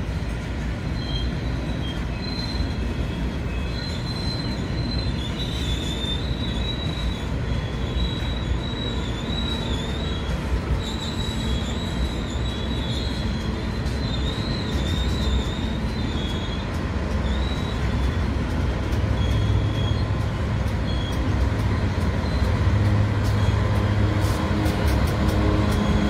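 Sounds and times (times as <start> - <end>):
diesel locomotive engine hum: 0.0 - 26.0
low rumble of rolling wagons: 0.0 - 26.0
wagon wheels squealing: 0.8 - 26.0.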